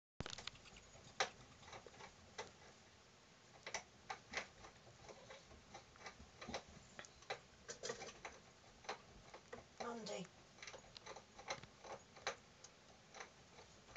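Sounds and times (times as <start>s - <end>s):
rats shifting in wire cage: 0.2s - 2.8s, 3.5s - 13.9s.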